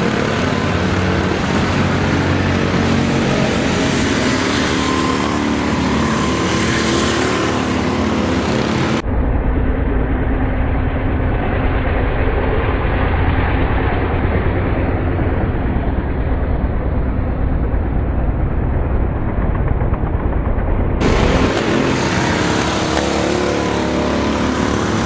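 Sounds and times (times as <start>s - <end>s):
go-kart engines running: 0.0s - 9.0s, 11.7s - 25.0s.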